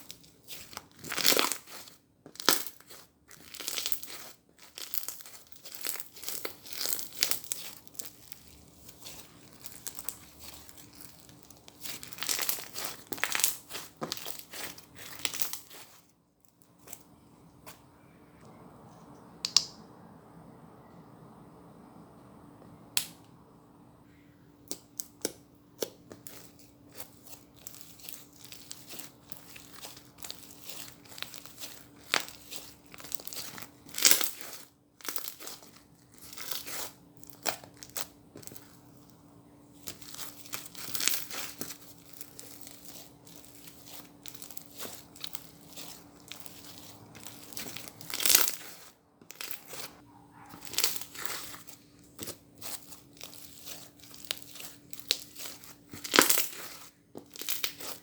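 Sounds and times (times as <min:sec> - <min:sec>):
slime crackling when squeezed: 0:00.0 - 0:17.0, 0:25.8 - 0:38.9, 0:39.8 - 0:58.0
slime squishes: 0:00.0 - 0:18.1, 0:24.1 - 0:58.0
faint steady hum: 0:00.0 - 0:58.0.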